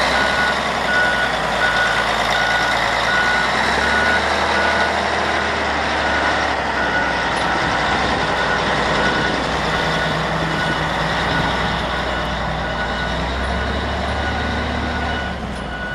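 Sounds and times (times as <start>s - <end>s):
wheel loader diesel engine: 0.0s - 15.9s
back-up alarm beeping: 0.1s - 15.9s.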